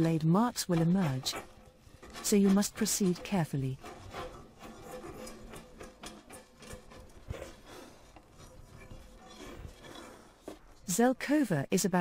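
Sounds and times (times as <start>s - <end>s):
chisel scraping wood: 0.6s - 10.9s.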